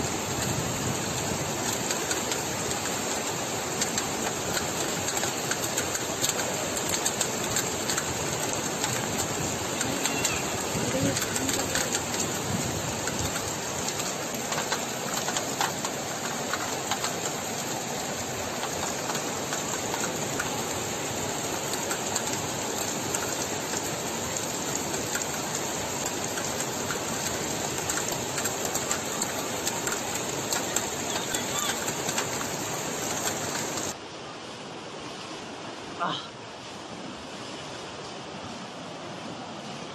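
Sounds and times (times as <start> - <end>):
heavy rain hissing: 0.0 - 34.0
patter of raindrops: 0.0 - 34.0.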